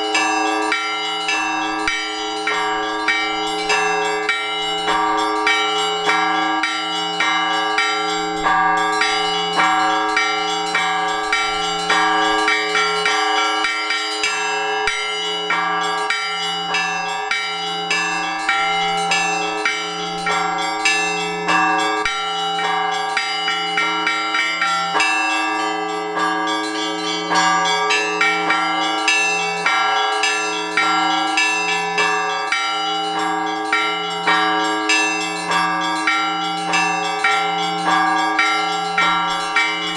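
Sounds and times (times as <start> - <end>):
small bells fast rhythm: 0.0 - 39.9.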